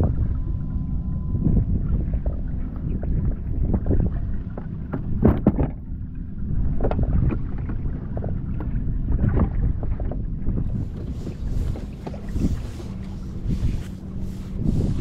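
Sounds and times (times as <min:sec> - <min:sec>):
water rumbling against kayak hull: 0:00.0 - 0:15.0
wind buffeting microphone: 0:00.0 - 0:15.0.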